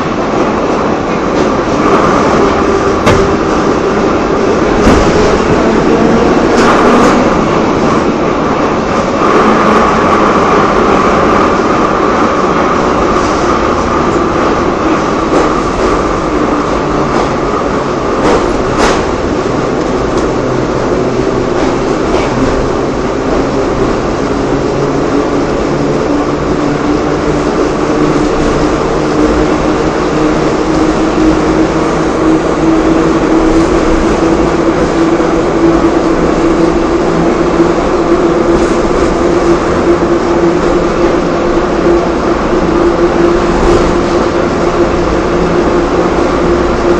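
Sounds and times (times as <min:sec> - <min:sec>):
train rumble inside carriage: 0:00.0 - 0:46.9.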